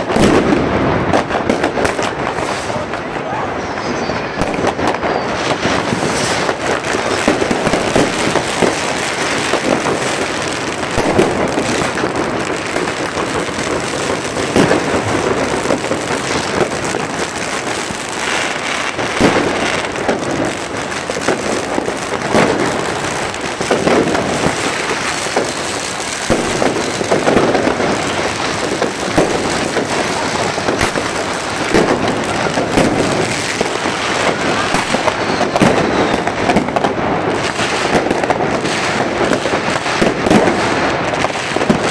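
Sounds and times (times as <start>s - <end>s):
firecrackers crackling: 0.0s - 41.9s
firework rockets bursting: 0.0s - 41.9s.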